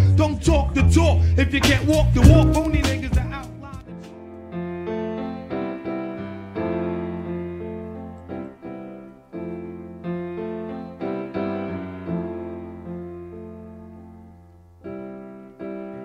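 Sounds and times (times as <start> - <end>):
piano chords ringing: 1.9 - 16.0.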